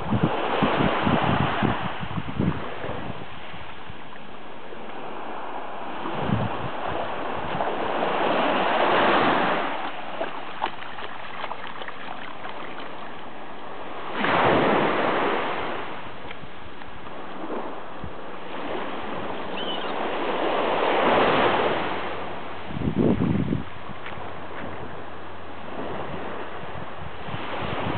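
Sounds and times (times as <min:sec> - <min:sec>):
waves washing on sandy shore: 0:00.0 - 0:27.9
wind buffeting microphone: 0:00.0 - 0:27.9.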